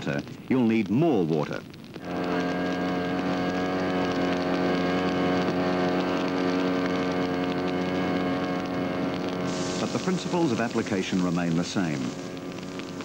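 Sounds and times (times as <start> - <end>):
fire pump engine running: 2.0 - 13.0.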